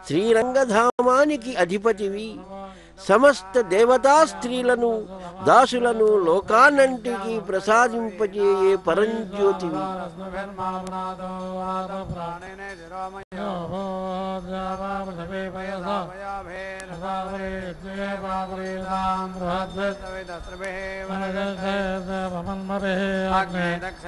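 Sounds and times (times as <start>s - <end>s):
mantras chanted: 0.0s - 24.0s.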